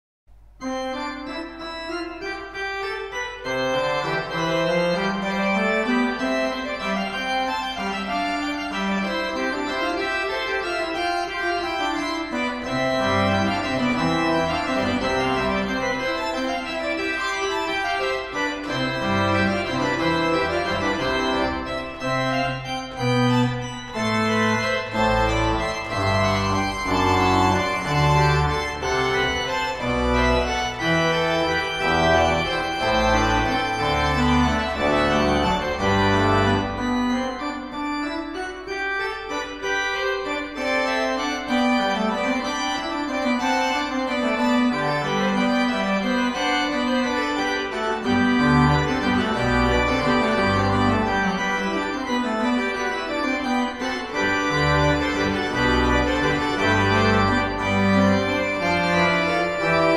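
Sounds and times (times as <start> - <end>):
pipe organ playing: 0.6 - 59.9.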